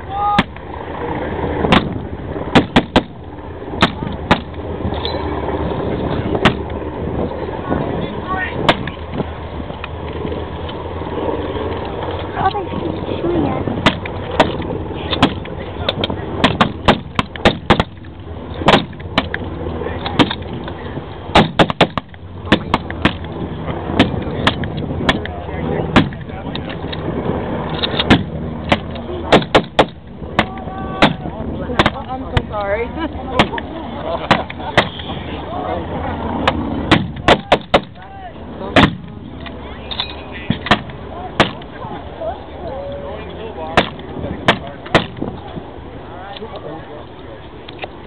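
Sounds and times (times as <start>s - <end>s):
engine drone: 0.0s - 48.0s
steady background rumble: 0.0s - 48.0s.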